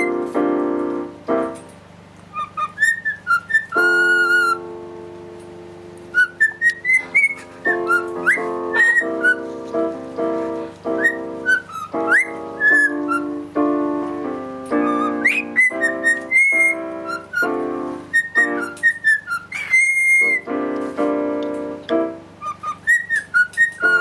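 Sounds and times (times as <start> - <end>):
cockatiel whistling a melody: 0.0 - 0.3, 2.3 - 4.7, 6.0 - 24.0
piano music playing chords: 0.0 - 24.0.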